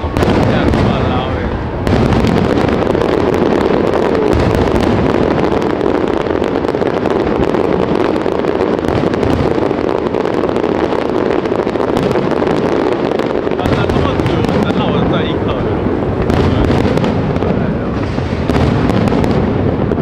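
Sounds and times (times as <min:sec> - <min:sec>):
fireworks booming and crackling: 0:00.0 - 0:20.0
sharp fireworks cracks: 0:00.0 - 0:20.0.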